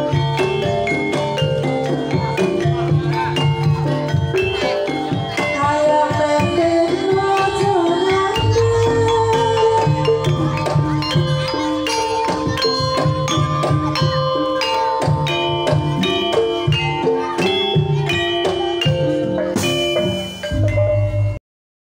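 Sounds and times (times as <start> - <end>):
gamelan ensemble playing: 0.0 - 21.4.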